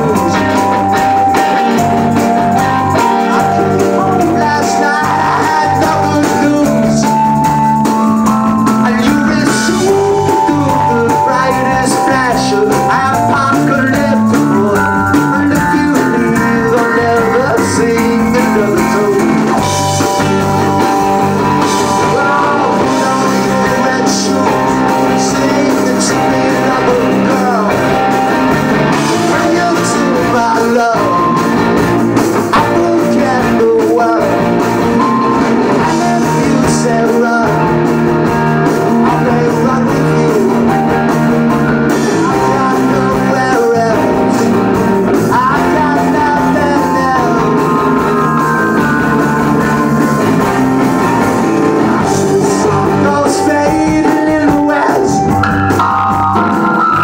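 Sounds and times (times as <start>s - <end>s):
live rock band playing: 0.0s - 57.0s
person singing: 0.0s - 57.0s.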